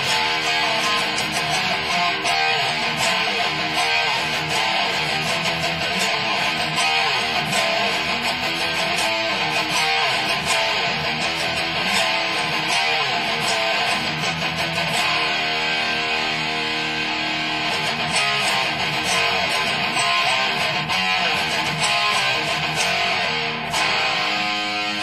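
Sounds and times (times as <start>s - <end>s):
electric guitar strumming chords: 0.0s - 25.0s.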